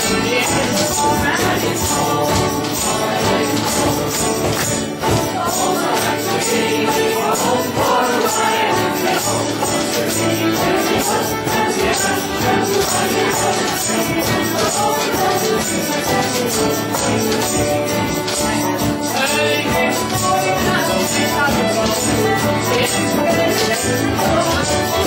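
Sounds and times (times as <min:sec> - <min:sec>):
live folk music: 0:00.0 - 0:25.0
steady percussion beat: 0:00.0 - 0:25.0.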